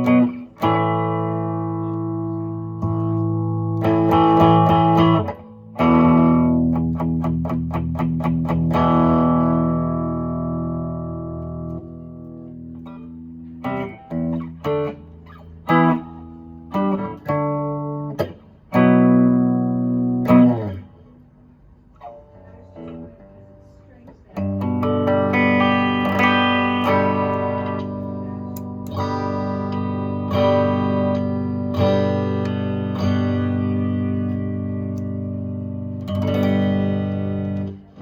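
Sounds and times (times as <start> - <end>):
electric guitar chords: 0.0 - 38.0.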